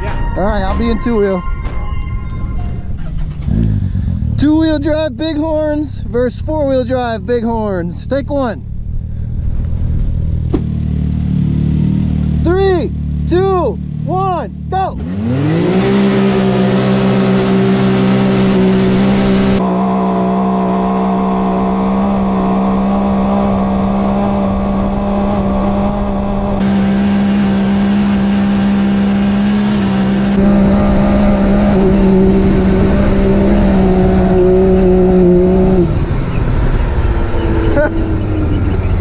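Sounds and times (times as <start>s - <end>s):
engine at full throttle: 3.0s - 5.9s, 10.5s - 39.0s.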